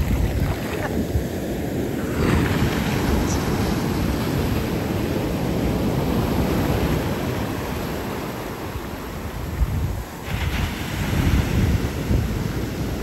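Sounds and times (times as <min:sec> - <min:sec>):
ocean surf washing onto beach: 0:00.0 - 0:13.0
wind rumble on microphone: 0:00.0 - 0:13.0.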